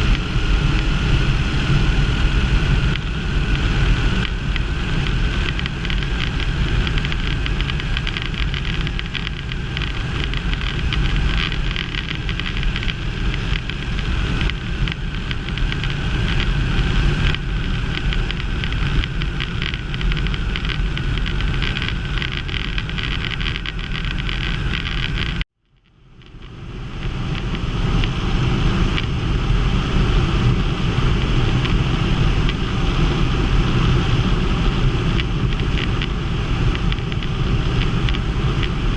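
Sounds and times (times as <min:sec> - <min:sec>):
aircraft engine running: 0:00.0 - 0:38.9
wind rushing over microphone: 0:00.0 - 0:38.9.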